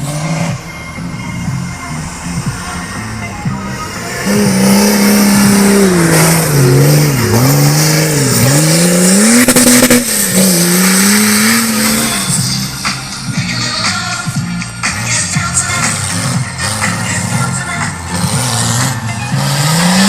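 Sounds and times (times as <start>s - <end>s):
engine revving hard: 0.0s - 13.8s, 14.8s - 20.0s.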